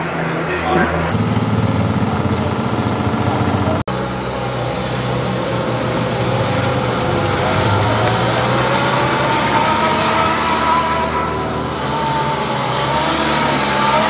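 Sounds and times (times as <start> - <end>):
race car engines idling: 1.0 - 14.0.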